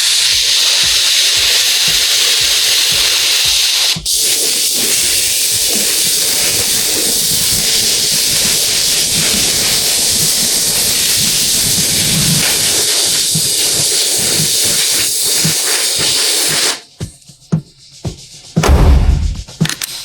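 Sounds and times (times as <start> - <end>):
high-pressure spray hissing: 0.0 - 16.9.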